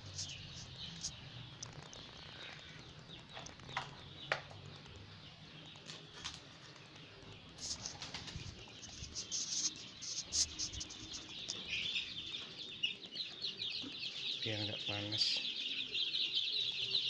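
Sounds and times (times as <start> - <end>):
chicks peeping and chirping: 0.0 - 17.0.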